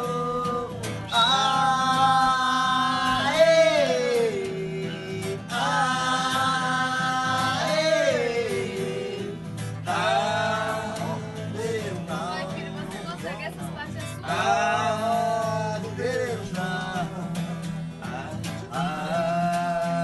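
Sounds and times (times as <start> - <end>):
man singing: 0.0 - 20.0
strummed acoustic guitar: 0.0 - 20.0.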